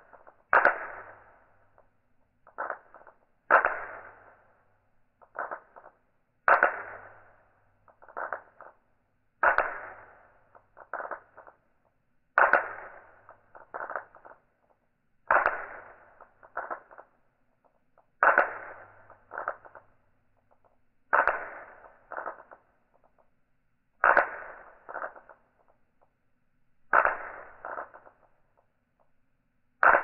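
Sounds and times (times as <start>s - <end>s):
steel balls clacking: 0.0s - 4.5s, 5.2s - 8.8s, 9.4s - 11.7s, 12.4s - 23.3s, 24.0s - 26.1s, 26.9s - 29.1s, 29.8s - 30.0s.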